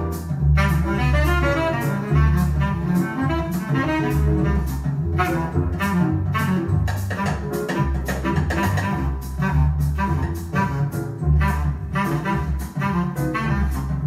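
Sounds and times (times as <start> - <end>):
jazz from a vinyl record: 0.0 - 14.0.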